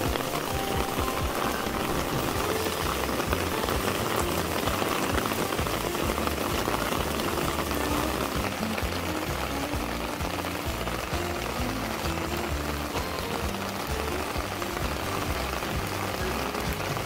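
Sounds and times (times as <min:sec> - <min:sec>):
rain on leaves and wooden deck: 0:00.0 - 0:17.0.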